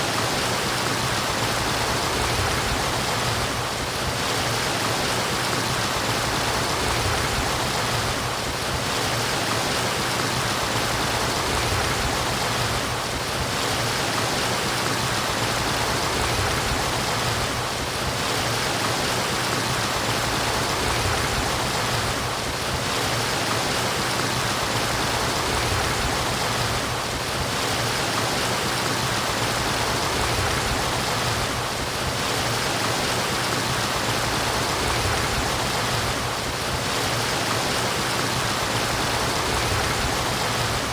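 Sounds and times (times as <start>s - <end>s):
flowing water murmuring: 0.0s - 40.9s.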